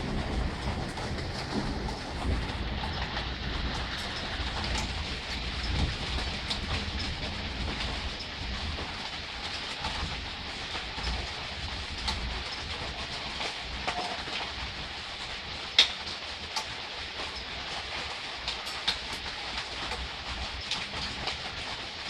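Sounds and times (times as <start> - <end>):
soft rain falling: 0.0 - 22.0.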